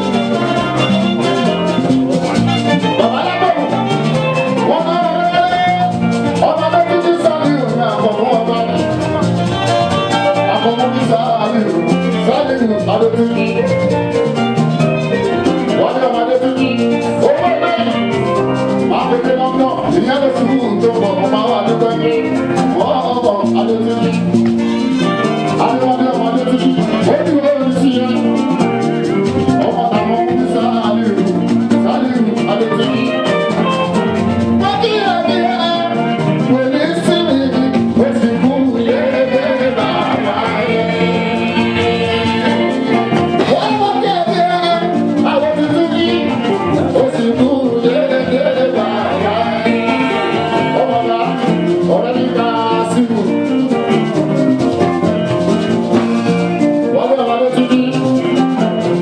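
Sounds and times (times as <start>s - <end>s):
busy percussion: 0.0s - 59.0s
person singing: 0.0s - 59.0s.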